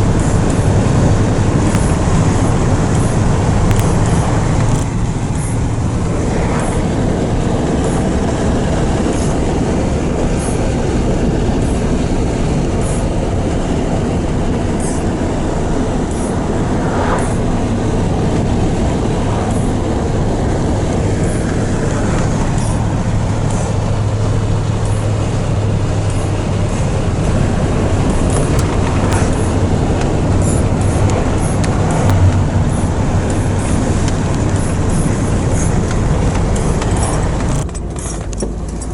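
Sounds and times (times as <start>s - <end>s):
road rumble: 0.0s - 38.9s
truck engine hum: 0.0s - 38.9s.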